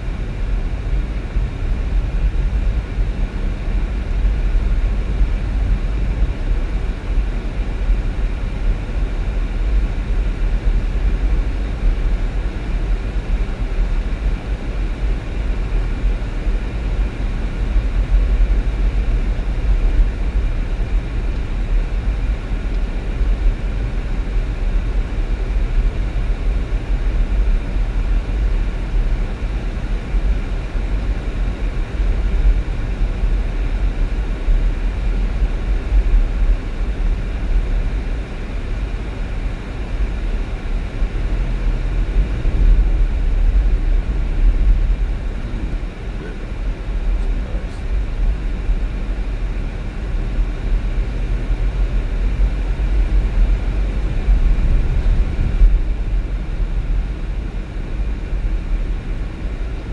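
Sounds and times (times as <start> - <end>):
car engine and tyre noise: 0.2 - 59.9.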